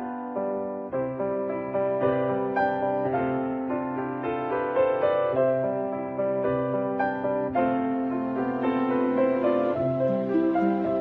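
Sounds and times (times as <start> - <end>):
instrumental keyboard music: 0.0 - 11.0.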